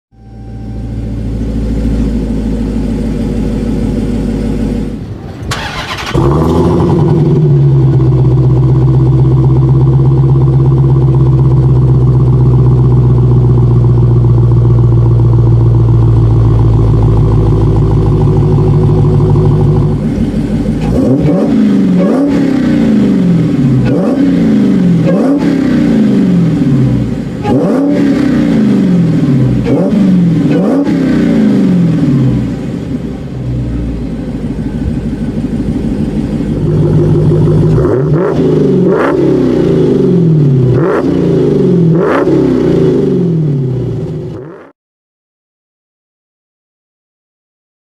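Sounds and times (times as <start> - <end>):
car engine idling: 0.1 - 44.4
car engine starting: 0.1 - 44.7
car engine revving: 0.2 - 44.7.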